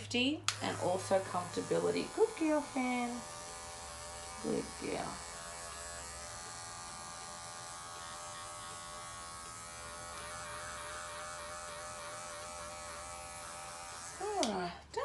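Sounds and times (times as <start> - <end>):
electric clippers buzzing: 0.4 - 14.7.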